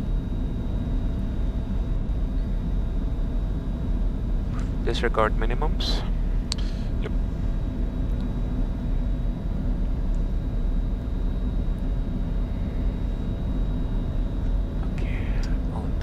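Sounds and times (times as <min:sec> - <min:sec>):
jet cockpit low rumble: 0:00.0 - 0:16.0.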